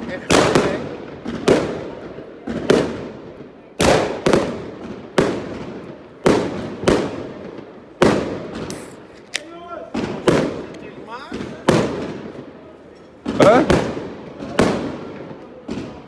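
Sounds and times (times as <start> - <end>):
firework shells bursting: 2.7 - 16.0.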